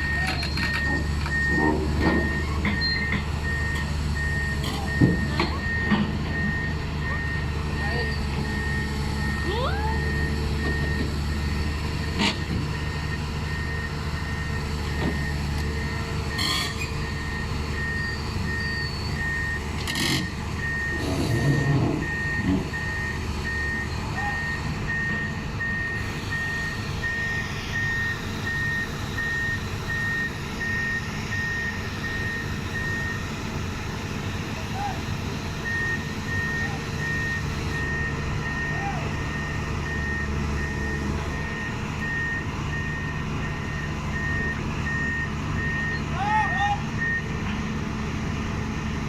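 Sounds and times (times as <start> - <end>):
backup alarm beeping: 0.0 - 11.6, 12.8 - 33.3, 35.6 - 46.1.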